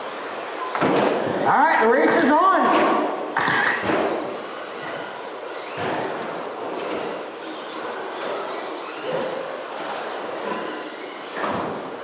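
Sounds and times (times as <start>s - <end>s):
rc truck motors whining: 0.0s - 2.4s, 3.3s - 12.0s.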